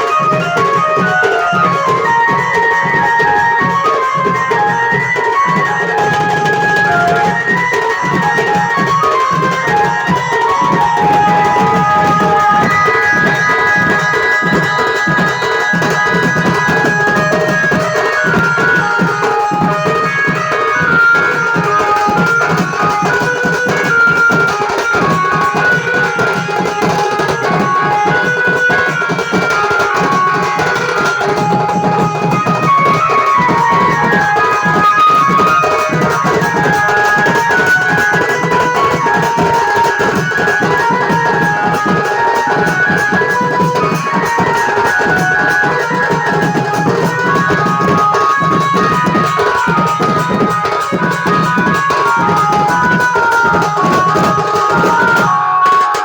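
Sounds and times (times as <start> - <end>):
hand drum percussion: 0.0 - 56.0
keyboard melody: 0.0 - 56.0.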